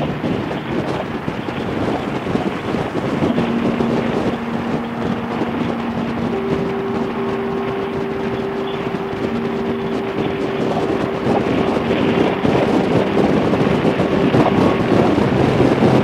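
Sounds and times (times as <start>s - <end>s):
higher whine: 0.0s - 16.0s
steady low whine: 0.0s - 16.0s
wind noise on microphone: 0.0s - 16.0s.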